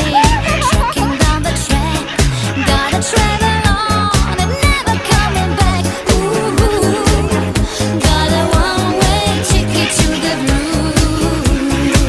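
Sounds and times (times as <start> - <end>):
pop song with dance beat: 0.0 - 12.0.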